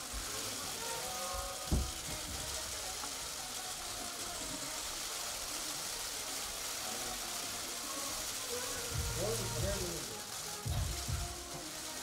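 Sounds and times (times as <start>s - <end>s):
faint indistinct voices: 0.0s - 12.0s
room hiss: 0.0s - 12.0s.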